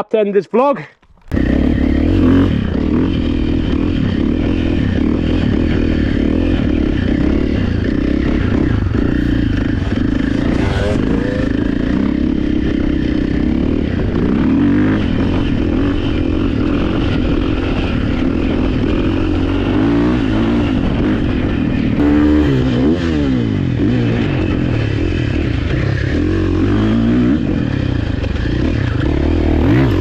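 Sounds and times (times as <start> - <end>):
motorbike engine revving: 1.0 - 30.0.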